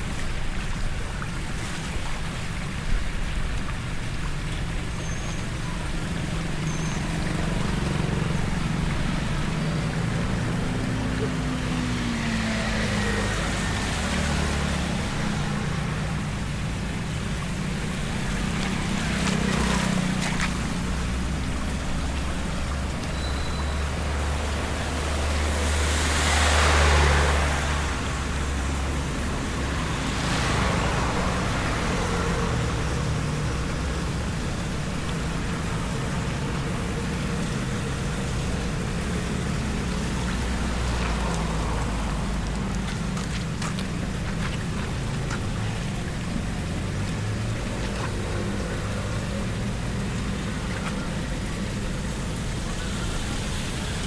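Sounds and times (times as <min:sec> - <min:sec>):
engines rumbling: 0:00.0 - 0:54.0
tyres rushing through water: 0:00.0 - 0:54.0
vehicle passing close: 0:06.2 - 0:54.0.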